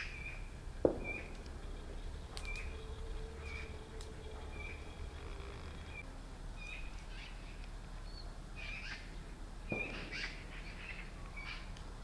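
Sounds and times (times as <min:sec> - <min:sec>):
birds chirping: 0:00.0 - 0:11.8
low steady rumble: 0:00.0 - 0:12.0.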